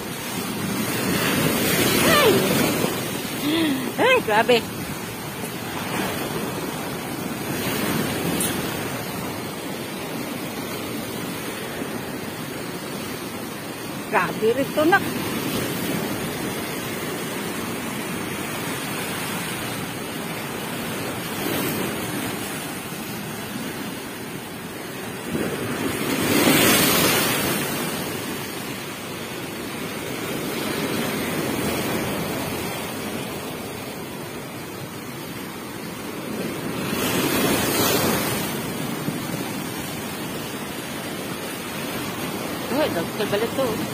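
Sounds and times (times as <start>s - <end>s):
waves breaking on shore: 0.0s - 43.9s.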